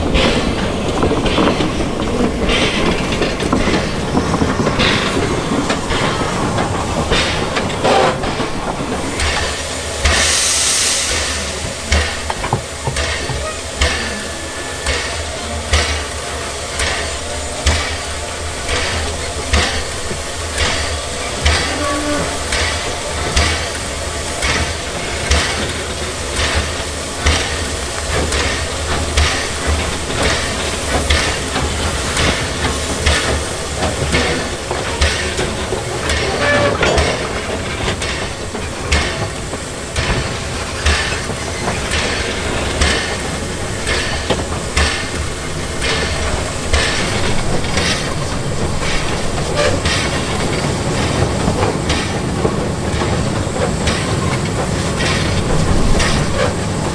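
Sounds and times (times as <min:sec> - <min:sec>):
hiss of steam: 0:00.0 - 0:56.9
steam locomotive exhaust chuffing: 0:00.0 - 0:56.9
wheels rumbling on track: 0:00.0 - 0:56.9.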